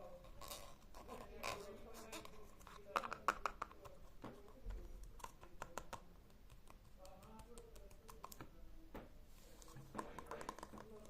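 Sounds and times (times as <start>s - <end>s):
faint clicks and taps: 2.0s - 11.0s.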